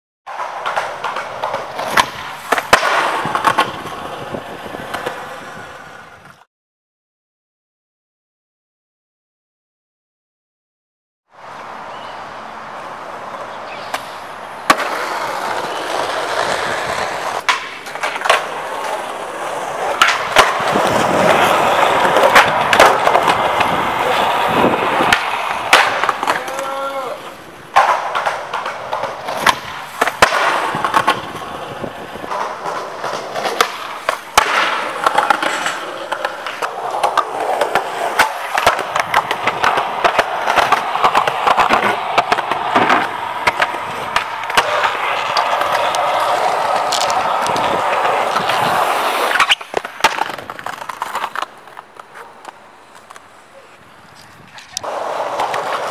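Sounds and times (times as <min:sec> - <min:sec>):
skateboard popping and landing: 0:00.3 - 0:06.4, 0:13.0 - 0:55.9
skateboard wheels rolling on concrete: 0:00.3 - 0:06.5, 0:11.3 - 0:55.9.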